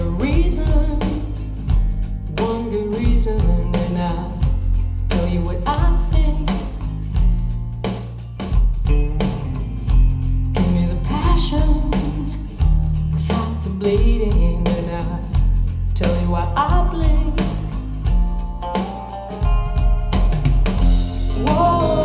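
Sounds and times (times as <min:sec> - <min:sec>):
rock song through speakers: 0:00.0 - 0:22.0.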